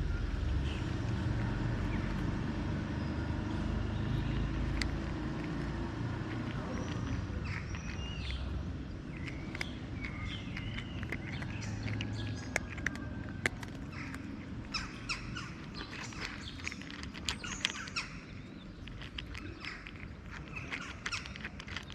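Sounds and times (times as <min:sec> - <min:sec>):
small birds chirping: 0:00.0 - 0:21.9
steady low rumble: 0:00.0 - 0:21.9
sharp ticks: 0:04.2 - 0:21.9.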